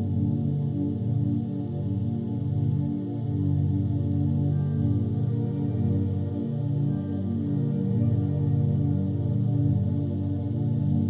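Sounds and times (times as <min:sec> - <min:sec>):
ambient meditation music drone: 0:00.0 - 0:11.0.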